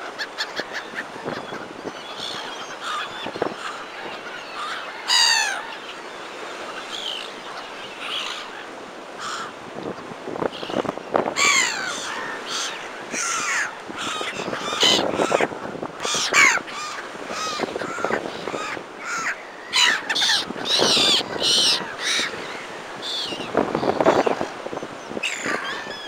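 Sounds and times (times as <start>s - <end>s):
gulls calling: 0.0s - 26.0s.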